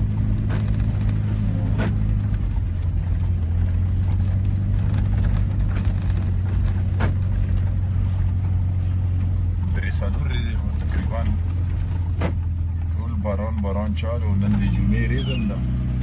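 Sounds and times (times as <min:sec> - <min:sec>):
rain on vehicle: 0:00.0 - 0:13.8
vehicle engine humming: 0:00.0 - 0:16.0.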